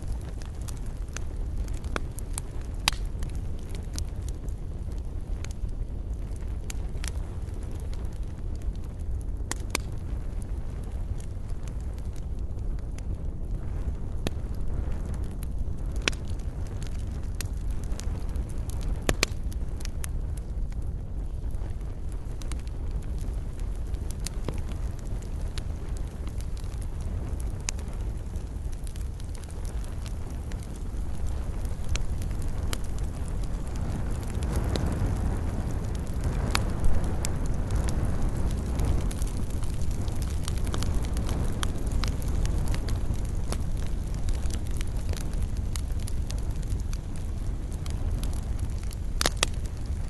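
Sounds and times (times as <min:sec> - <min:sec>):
fire crackling and popping: 0:00.0 - 0:50.0
fire rumbling: 0:00.0 - 0:50.0
flames rushing: 0:00.0 - 0:50.0.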